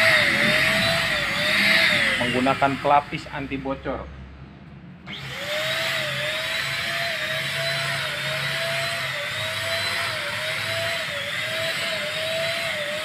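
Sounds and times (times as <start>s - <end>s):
electric spray gun motor whine: 0.0s - 3.2s, 5.1s - 13.0s.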